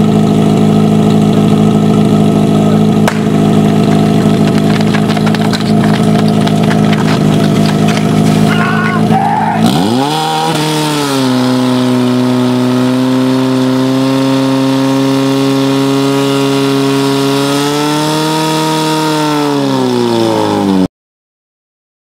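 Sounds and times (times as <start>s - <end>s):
pump engine revving: 0.0s - 20.9s.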